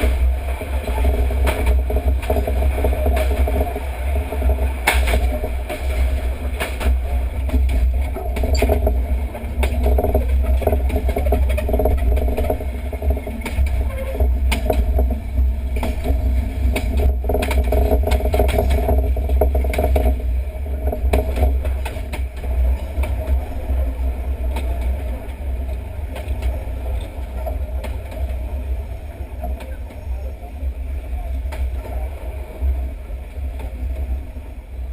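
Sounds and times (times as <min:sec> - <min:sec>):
train motor hum: 0:00.0 - 0:34.9
train wheels clicking over rail joints: 0:00.0 - 0:34.9
wind rumble on microphone: 0:00.0 - 0:34.9.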